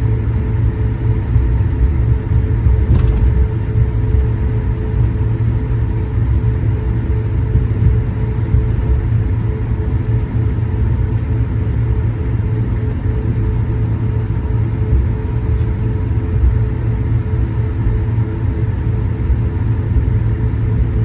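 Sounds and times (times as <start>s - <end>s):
aircraft cabin rumble: 0.0s - 21.0s
steady tonal hum: 0.0s - 21.0s.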